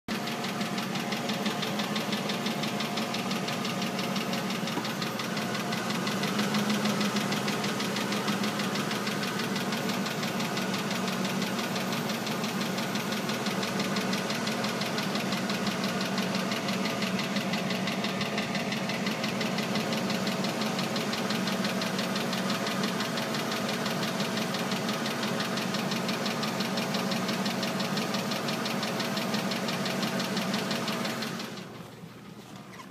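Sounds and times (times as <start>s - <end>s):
fast rhythmic engine clicking: 0.1s - 31.9s
car engine running: 0.1s - 32.9s.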